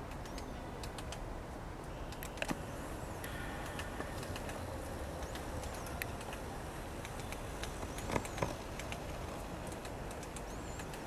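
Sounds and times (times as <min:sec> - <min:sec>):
low background noise: 0:00.0 - 0:11.0
woodpecker tapping: 0:02.1 - 0:11.0.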